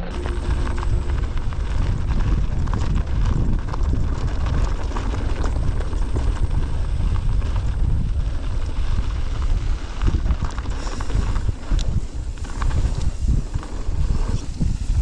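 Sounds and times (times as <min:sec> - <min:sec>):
bike rattling over rocks: 0:00.0 - 0:15.0
tyres rumbling on trail: 0:00.0 - 0:15.0
wind buffeting microphone: 0:00.0 - 0:15.0.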